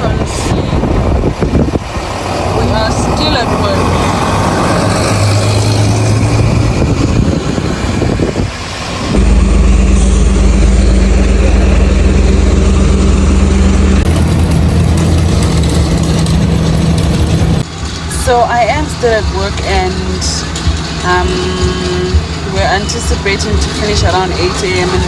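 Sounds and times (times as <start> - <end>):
construction machinery engines droning: 0.0 - 25.0
deep engine rumble: 0.0 - 25.0.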